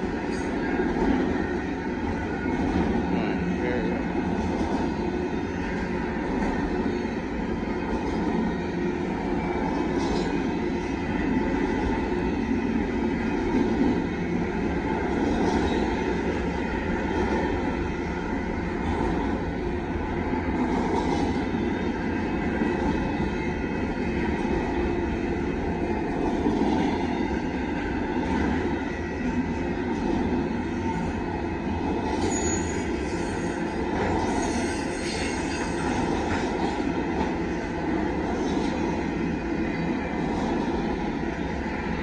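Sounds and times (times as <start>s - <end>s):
freight train wheels rumbling: 0.0s - 42.0s.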